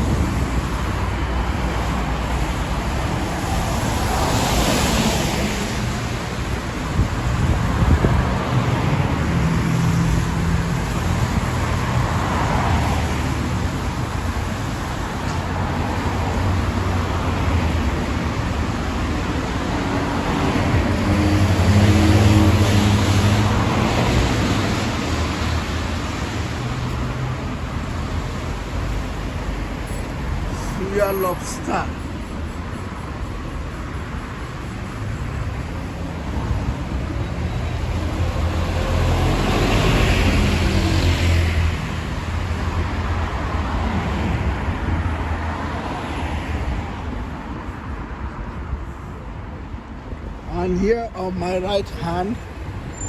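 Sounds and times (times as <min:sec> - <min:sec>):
cars passing on wet road: 0:00.0 - 0:53.0
steady traffic noise: 0:00.0 - 0:53.0.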